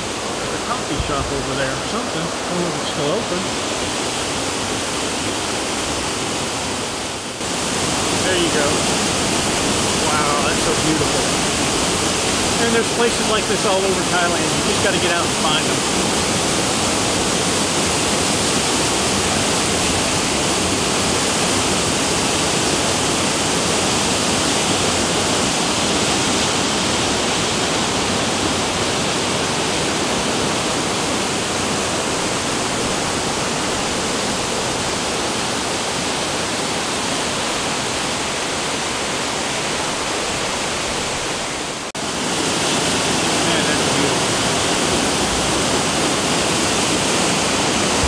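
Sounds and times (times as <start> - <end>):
water rushing over rapids: 0.0 - 48.0.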